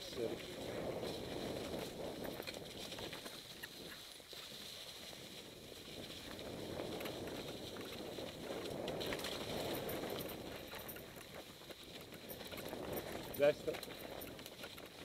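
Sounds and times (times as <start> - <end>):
bike rattling over ground: 0.0 - 15.0
bike tyres rolling over dry leaves: 0.0 - 15.0.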